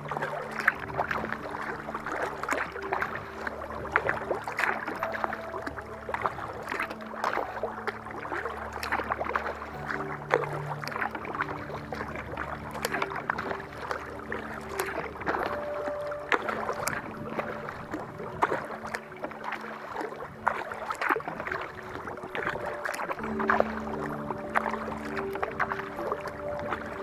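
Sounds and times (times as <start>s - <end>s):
paddle splashing in water: 0.0s - 27.0s.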